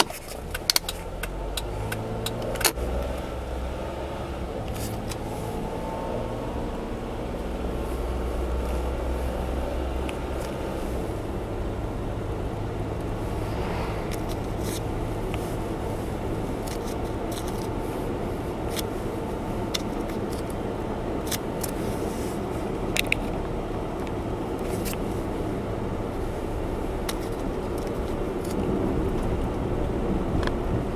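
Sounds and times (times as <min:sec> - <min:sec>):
car engine hum: 0:00.0 - 0:30.9
road noise: 0:00.0 - 0:30.9.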